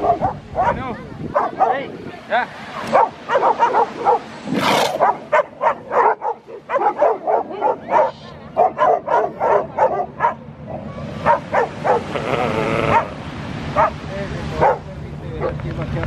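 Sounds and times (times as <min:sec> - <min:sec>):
dogs barking rapidly: 0:00.0 - 0:01.8, 0:02.7 - 0:15.6.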